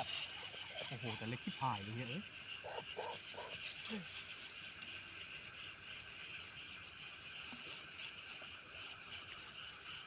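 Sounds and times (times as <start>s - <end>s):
crickets chirping: 0.0s - 10.0s
short insect trill: 0.0s - 10.0s.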